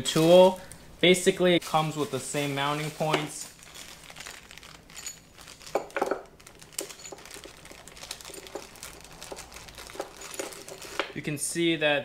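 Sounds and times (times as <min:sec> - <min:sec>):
plastic bag crinkling: 0:00.0 - 0:00.9, 0:01.6 - 0:11.3.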